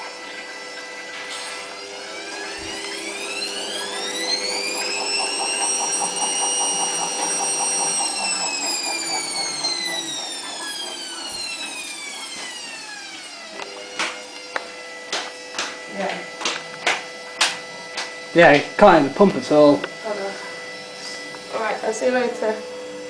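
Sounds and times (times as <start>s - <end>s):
washing machine drum motor whining: 0.0s - 23.0s.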